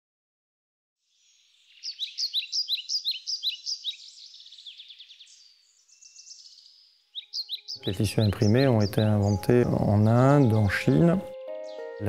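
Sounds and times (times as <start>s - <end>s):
songbird singing: 1.0s - 12.0s.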